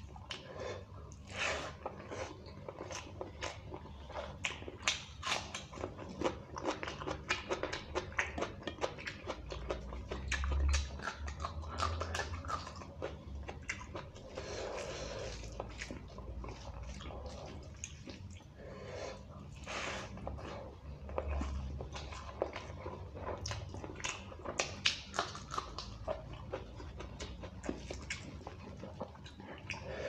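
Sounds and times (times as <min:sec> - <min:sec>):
wet chewing and smacking: 0:00.0 - 0:30.0.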